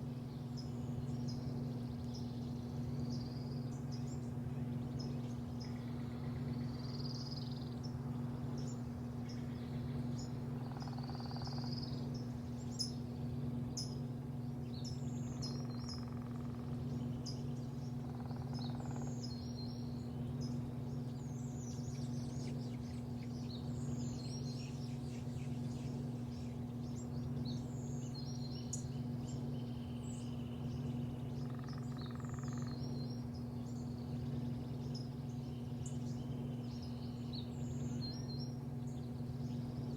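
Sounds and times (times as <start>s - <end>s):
low mechanical hum: 0.0s - 39.9s
small birds chirping: 0.0s - 39.9s.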